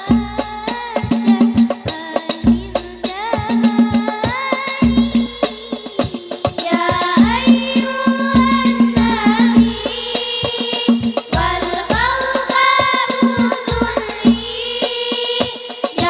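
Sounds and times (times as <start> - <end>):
frame drums struck by hand: 0.0 - 16.0
group of voices singing: 0.0 - 16.0.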